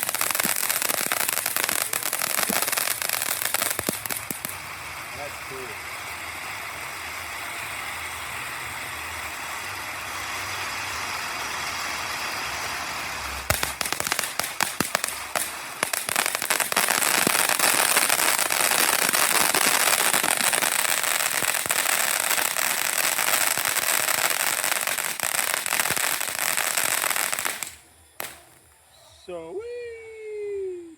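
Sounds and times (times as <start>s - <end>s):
firework crackling: 0.0s - 29.8s
firework fountain hissing: 0.0s - 29.8s.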